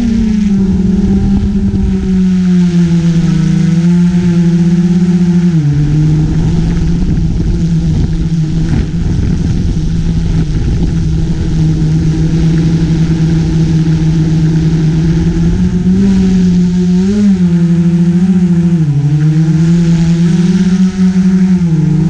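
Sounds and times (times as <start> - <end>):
drone propellers humming: 0.0 - 22.0
rough low rumble: 0.0 - 22.0.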